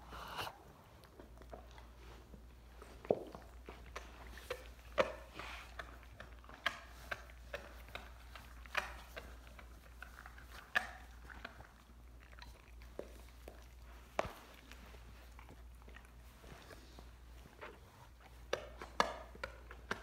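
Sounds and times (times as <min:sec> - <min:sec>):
dog chewing bone: 0:00.4 - 0:20.0.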